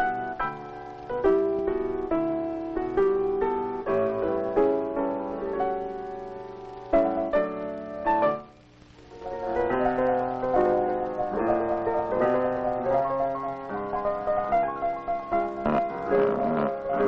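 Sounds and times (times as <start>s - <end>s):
lively piano music: 0.0s - 8.5s, 9.2s - 17.0s.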